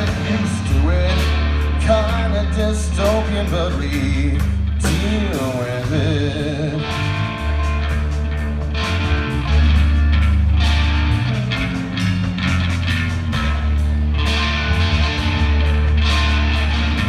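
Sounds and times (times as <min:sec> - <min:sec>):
bass guitar: 0:00.0 - 0:17.0
drums: 0:00.0 - 0:17.0
electric guitar: 0:00.0 - 0:17.0.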